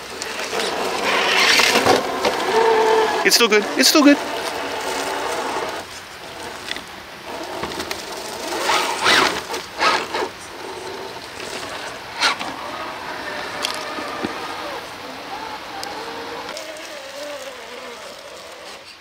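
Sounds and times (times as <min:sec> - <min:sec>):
electric drivetrain whining: 0:00.0 - 0:19.0
tires crunching snow and leaves: 0:00.0 - 0:19.0.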